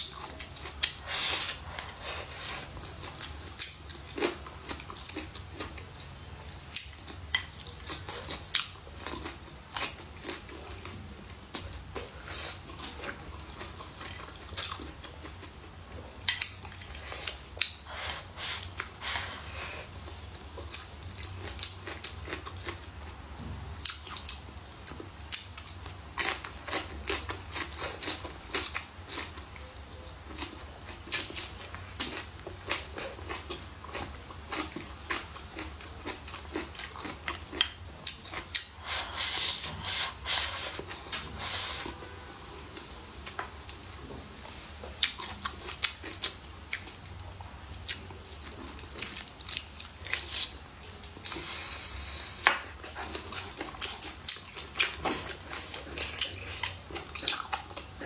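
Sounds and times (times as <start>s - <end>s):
chewing with wet mouth smacks: 0.0s - 23.2s, 23.8s - 44.0s, 45.0s - 51.7s, 52.3s - 58.0s.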